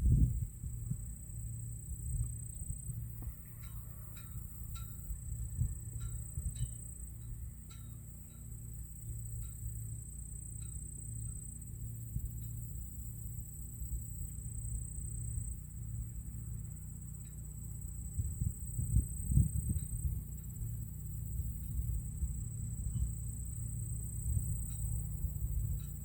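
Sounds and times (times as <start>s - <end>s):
wind rumble on microphone: 0.0s - 7.9s, 11.8s - 26.0s
insects droning: 0.0s - 26.0s.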